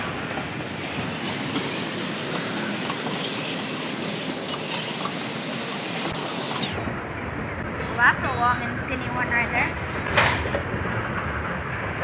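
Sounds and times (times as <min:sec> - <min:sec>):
train wheels rumbling on rail: 0:00.0 - 0:06.6, 0:07.4 - 0:12.0.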